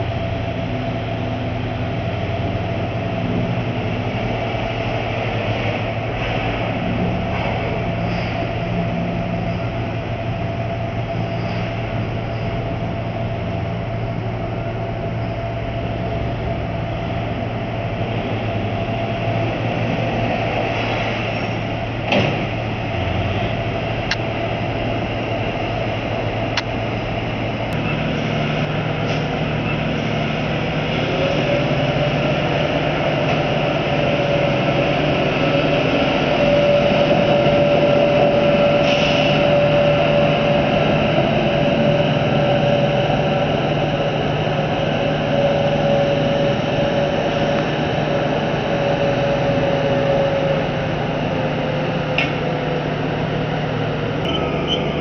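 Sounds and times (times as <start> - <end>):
heavy diesel engines droning: 0.0 - 55.0
steady engine note: 0.0 - 55.0.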